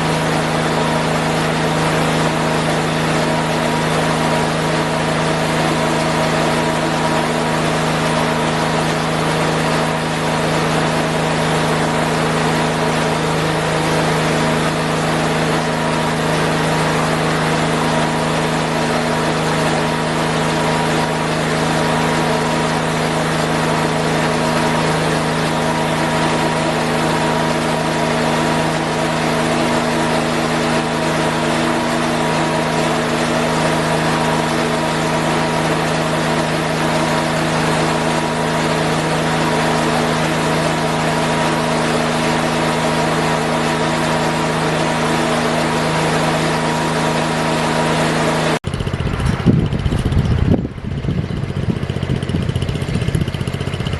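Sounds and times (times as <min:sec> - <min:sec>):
garden tractor engine running: 0:00.0 - 0:53.9.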